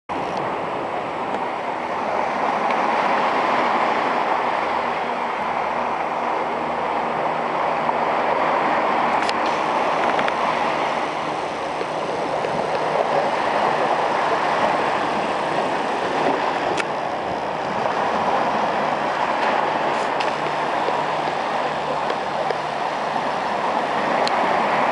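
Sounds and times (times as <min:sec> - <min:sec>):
surf washing onto beach: 0:00.1 - 0:24.9.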